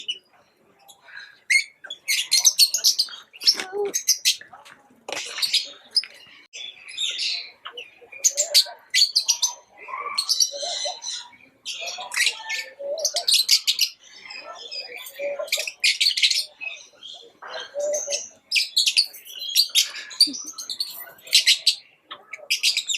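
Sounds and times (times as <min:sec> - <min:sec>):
lovebirds chattering: 0:00.0 - 0:22.9.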